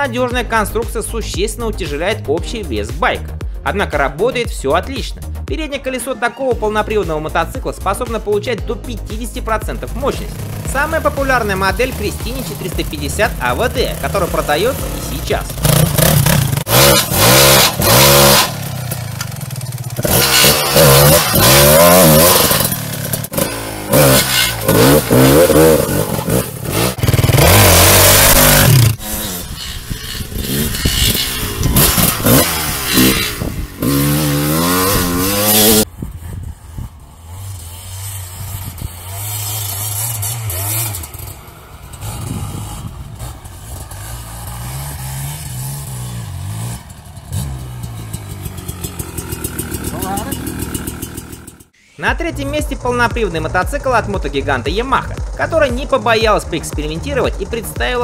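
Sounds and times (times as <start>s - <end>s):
dirt bike engine revving: 7.3s - 58.0s.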